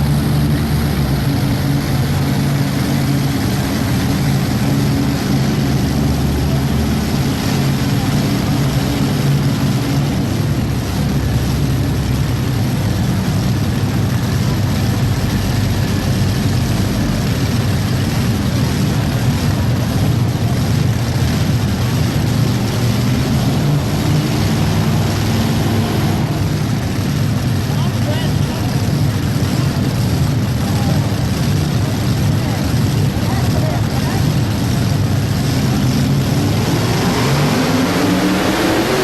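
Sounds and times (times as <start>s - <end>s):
tractor engines running hard: 0.0s - 39.0s.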